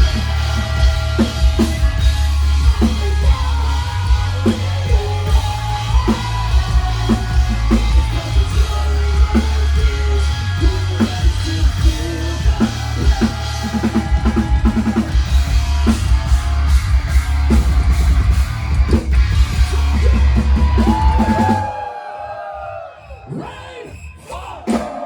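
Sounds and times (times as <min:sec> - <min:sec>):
metal band playing live: 0:00.0 - 0:22.1.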